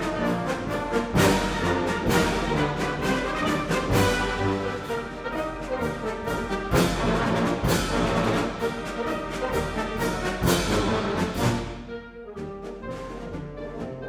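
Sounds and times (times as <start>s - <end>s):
sharp orchestral hits: 0.0s - 13.4s
orchestral music led by brass: 0.0s - 14.0s.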